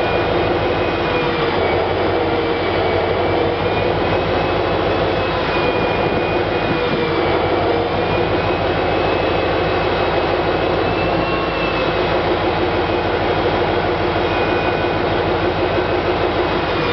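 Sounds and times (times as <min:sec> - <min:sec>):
diesel locomotive running: 0:00.0 - 0:16.9
faint wheel squeal: 0:00.0 - 0:16.9.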